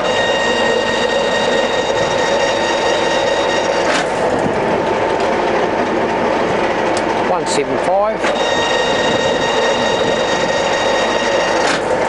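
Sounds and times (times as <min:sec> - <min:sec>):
lathe gear drive whine: 0:00.0 - 0:12.0.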